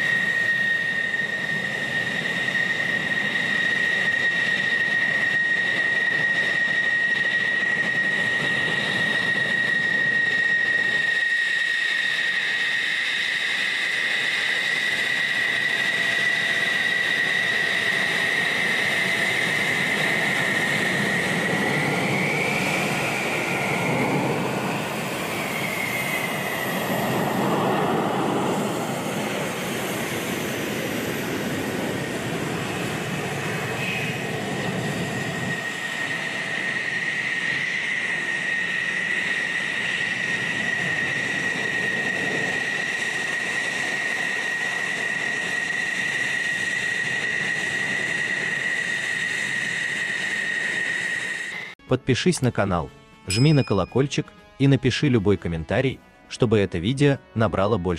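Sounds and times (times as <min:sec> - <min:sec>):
jet engine high whine: 0:00.0 - 0:51.8.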